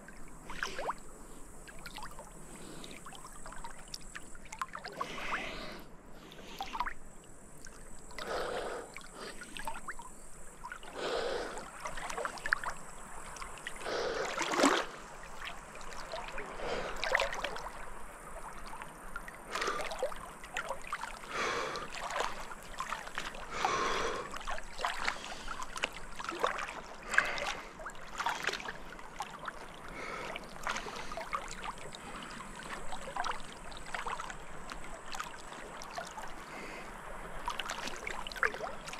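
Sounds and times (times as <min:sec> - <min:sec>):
hiss of flowing water: 0:00.0 - 0:38.9
river water splashing: 0:00.0 - 0:38.9.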